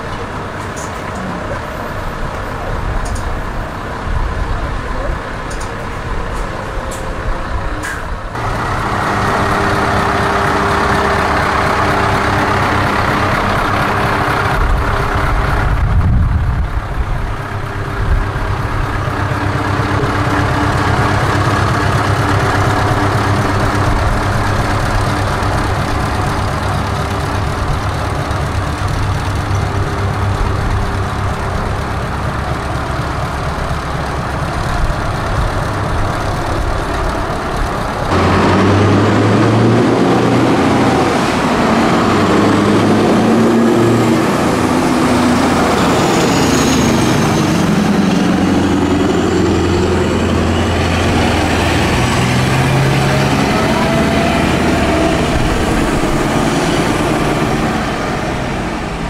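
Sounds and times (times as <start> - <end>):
truck engine at low revs: 0.0 - 59.0.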